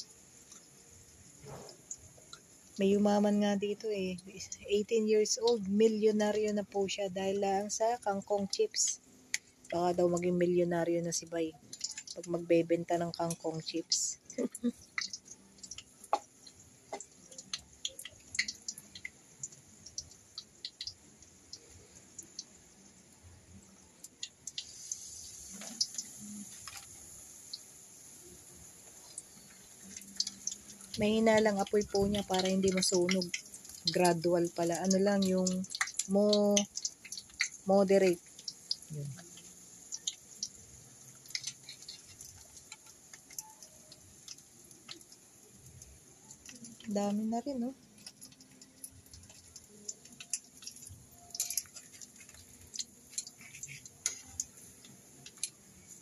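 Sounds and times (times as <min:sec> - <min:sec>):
leaves frying in hot oil: 0:00.0 - 0:56.0
oil crackling and popping: 0:00.0 - 0:56.0.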